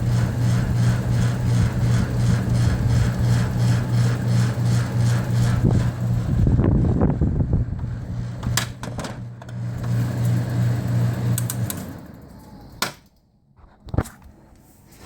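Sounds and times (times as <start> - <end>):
air conditioner compressor hum: 0.0 - 15.0.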